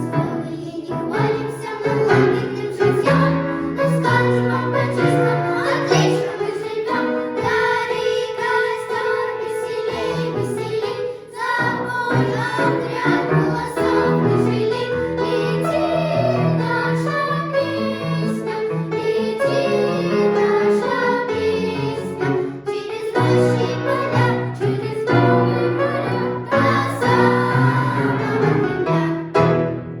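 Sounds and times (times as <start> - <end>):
children singing: 0.0 - 29.4.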